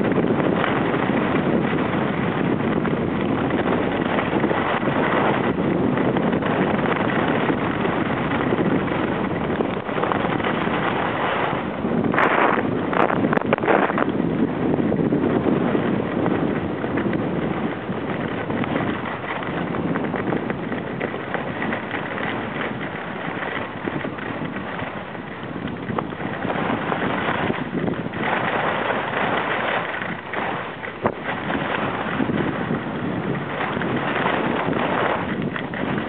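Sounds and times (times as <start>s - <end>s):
wind on microphone: 0.0s - 36.0s.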